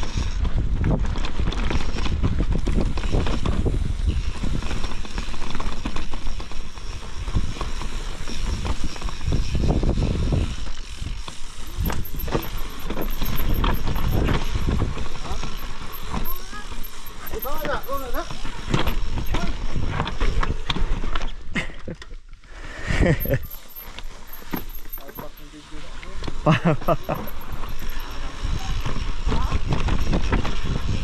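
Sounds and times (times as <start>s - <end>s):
bike rattling over bumps: 0.0s - 21.4s, 23.0s - 31.0s
bike tyres rumbling on dirt: 0.0s - 21.4s, 23.0s - 31.0s.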